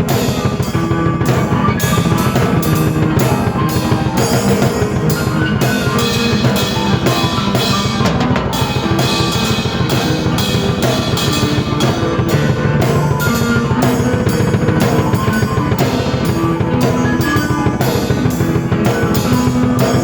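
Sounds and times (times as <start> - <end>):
drum kit fast beat: 0.0 - 20.0
keyboard notes: 0.0 - 20.0.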